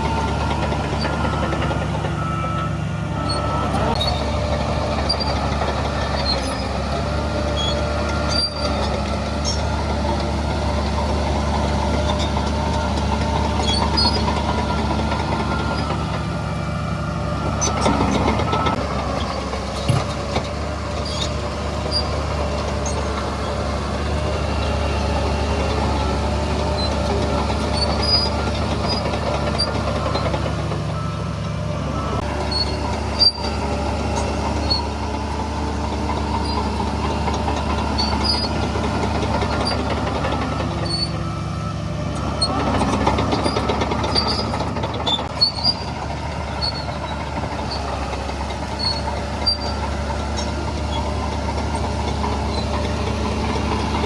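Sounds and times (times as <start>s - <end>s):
diesel earthmoving machinery running: 0.0s - 54.0s.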